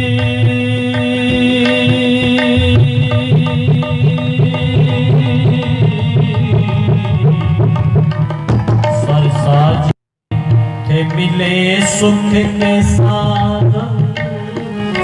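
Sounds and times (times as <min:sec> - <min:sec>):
hand drum rhythm: 0:00.0 - 0:09.7, 0:10.3 - 0:15.0.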